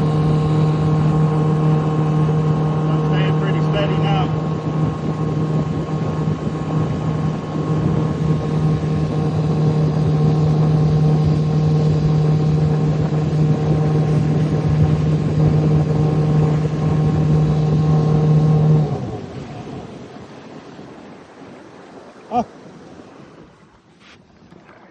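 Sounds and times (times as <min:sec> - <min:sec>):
boat engine at full throttle: 0:00.0 - 0:24.9.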